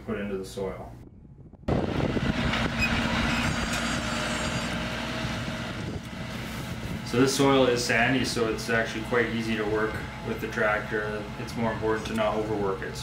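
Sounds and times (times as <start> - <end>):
tractor engine running under load: 1.7 - 13.0.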